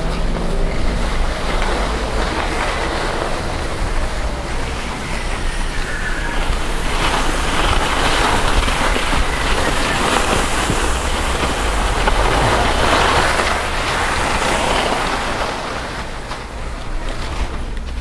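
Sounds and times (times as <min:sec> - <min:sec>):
wind buffeting microphone: 0:00.0 - 0:18.0
skis hissing on packed snow: 0:00.5 - 0:17.1.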